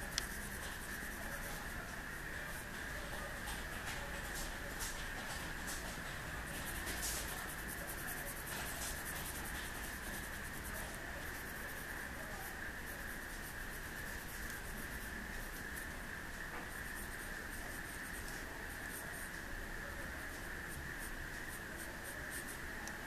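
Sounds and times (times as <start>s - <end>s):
pencil scratching on paper: 0.0s - 16.0s, 16.6s - 19.4s, 20.3s - 23.0s.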